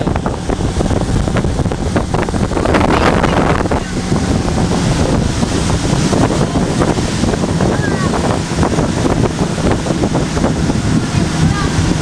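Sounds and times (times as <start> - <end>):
boat engine: 0.0 - 12.0
water rushing past hull: 0.0 - 12.0
wind buffeting microphone: 0.0 - 12.0.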